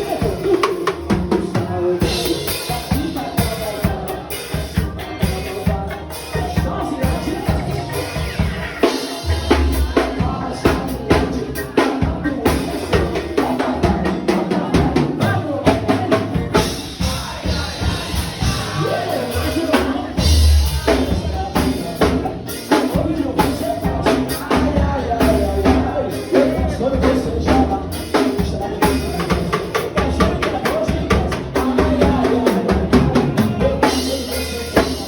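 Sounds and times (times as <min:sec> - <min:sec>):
heavy bass: 0:00.0 - 0:35.0
live band playing: 0:00.0 - 0:35.0.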